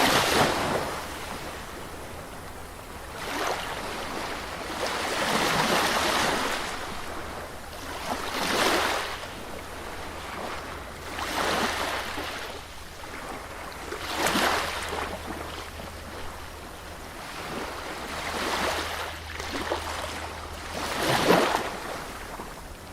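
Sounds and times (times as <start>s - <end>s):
sea waves breaking on a beach: 0.0s - 22.9s.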